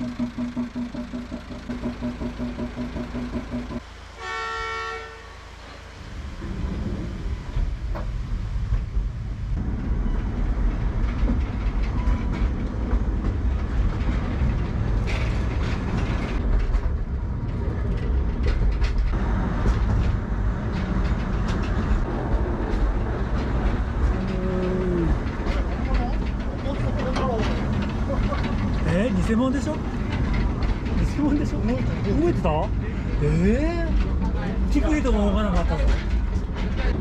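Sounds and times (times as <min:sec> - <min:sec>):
wheels clicking: 0:00.0 - 0:03.8, 0:09.6 - 0:37.0
small train rumbling on track: 0:00.0 - 0:37.0.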